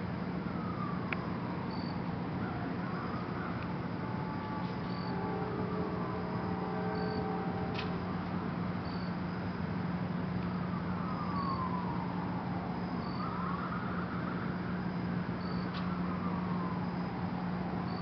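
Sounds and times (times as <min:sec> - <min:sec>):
distant traffic hum: 0:00.0 - 0:18.0
faint siren wailing: 0:00.0 - 0:18.0.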